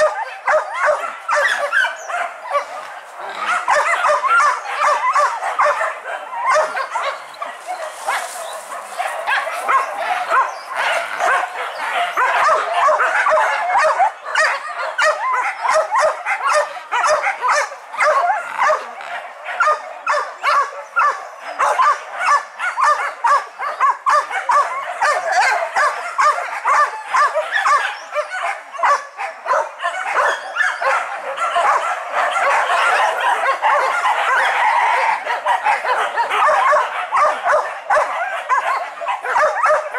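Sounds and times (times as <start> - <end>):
dogs barking and yelping: 0.0 - 39.9.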